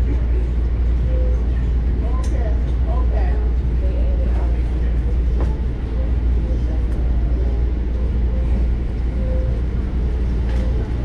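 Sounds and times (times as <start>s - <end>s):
train rumble inside car: 0.0s - 11.0s.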